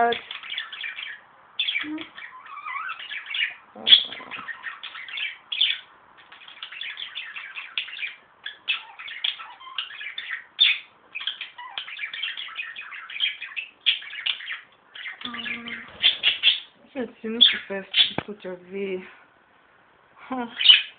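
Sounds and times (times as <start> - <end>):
pet birds chattering: 0.0 - 19.0, 20.3 - 20.9.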